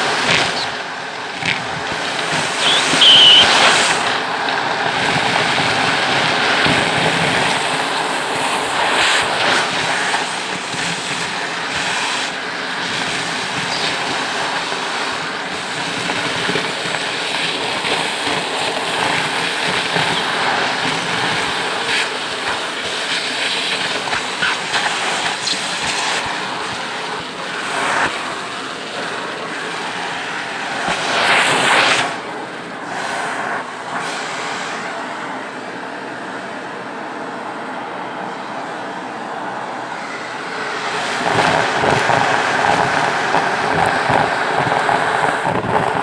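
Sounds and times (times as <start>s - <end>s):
vacuum cleaner running: 0.0s - 46.0s.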